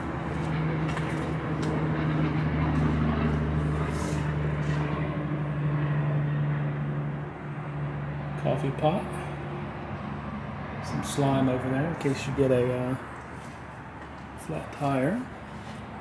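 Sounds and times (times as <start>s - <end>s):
road noise: 0.0s - 16.0s
vehicle engine droning: 0.0s - 16.0s.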